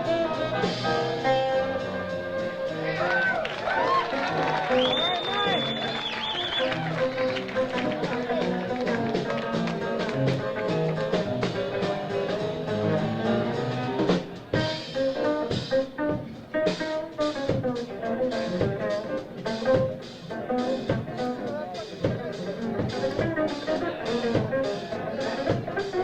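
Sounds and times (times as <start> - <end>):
jazz quartet playing: 0.0 - 3.3, 6.6 - 26.0.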